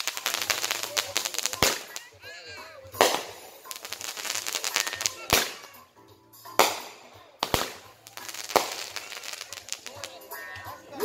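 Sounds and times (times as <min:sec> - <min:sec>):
firework bangs: 0:00.0 - 0:05.9, 0:06.5 - 0:10.6
firework crackling: 0:00.0 - 0:10.9.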